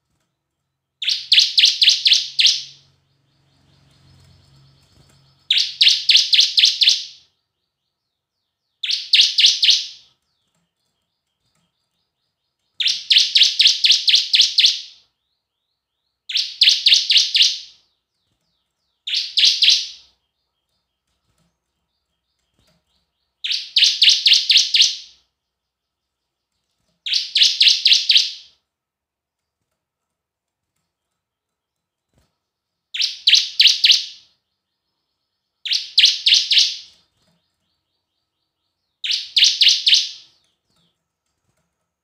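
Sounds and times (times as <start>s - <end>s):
bird singing rapid sharp notes: 0.1s - 28.6s, 30.8s - 41.5s.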